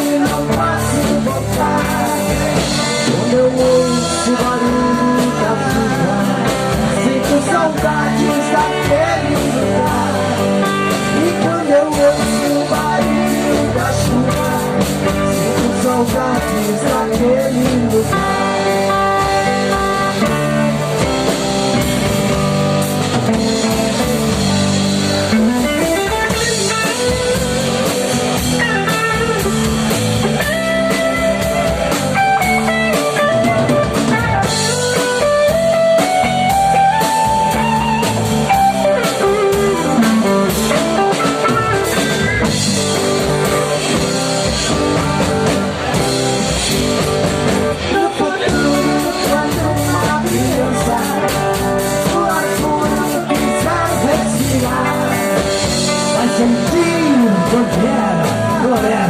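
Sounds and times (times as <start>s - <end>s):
bass guitar: 0.0s - 59.0s
drum kit: 0.0s - 59.0s
electric guitar melody: 0.0s - 59.0s.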